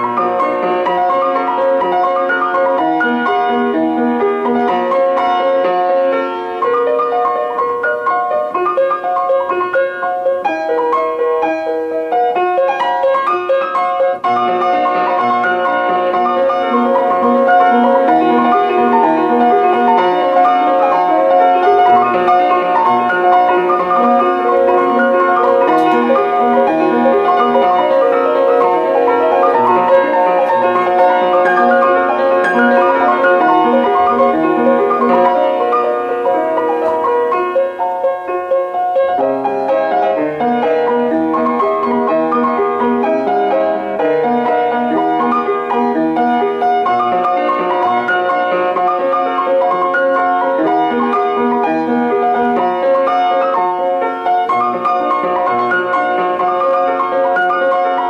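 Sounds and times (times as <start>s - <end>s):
instrumental piano music: 0.0s - 58.0s.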